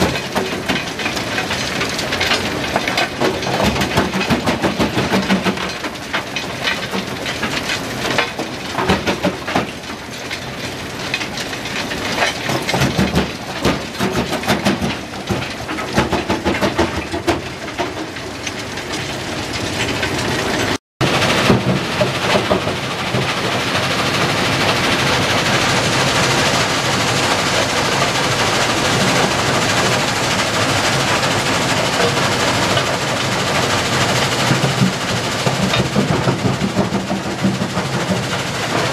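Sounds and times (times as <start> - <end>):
crushing machinery running: 0.0 - 38.9
rock clattering through a hopper: 0.0 - 38.9.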